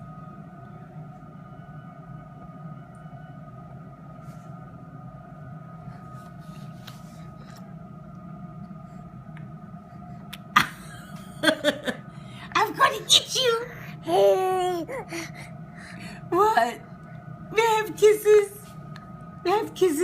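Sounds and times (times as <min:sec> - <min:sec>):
faint high whine: 0:00.0 - 0:20.0
low room hum: 0:00.0 - 0:20.0.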